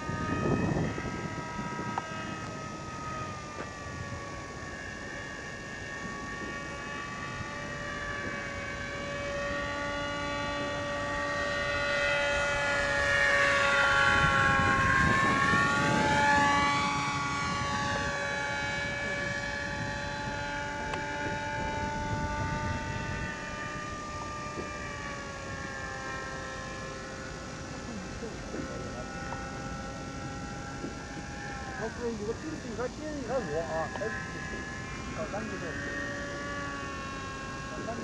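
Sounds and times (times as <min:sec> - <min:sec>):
model jet motor whining: 0:00.0 - 0:38.0.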